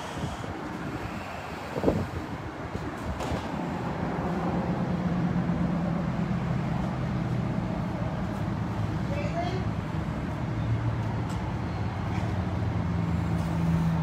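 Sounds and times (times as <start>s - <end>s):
motor vehicle engine hum: 0.0s - 14.0s.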